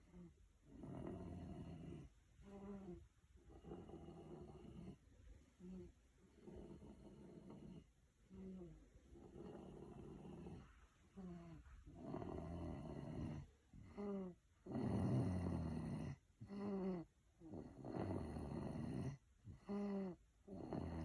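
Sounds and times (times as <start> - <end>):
person snoring: 0.1 - 5.0, 5.6 - 21.0.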